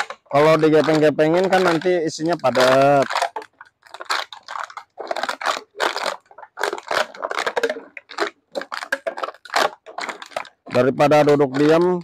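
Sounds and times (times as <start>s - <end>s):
plastic bottles crunching underfoot: 0.0s - 12.0s.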